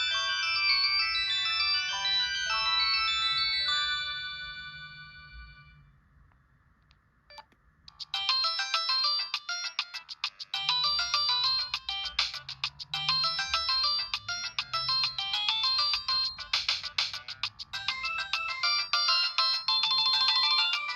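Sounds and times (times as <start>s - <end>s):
mobile phone ringtone melody: 0.0s - 5.8s, 7.9s - 20.9s.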